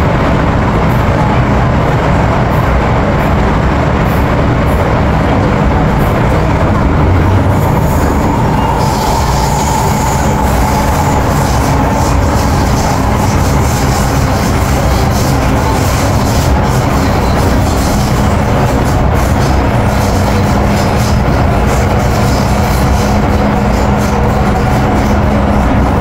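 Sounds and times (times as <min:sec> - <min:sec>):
train wheels rumbling: 0:00.0 - 0:26.0
train motor whine: 0:02.4 - 0:26.0.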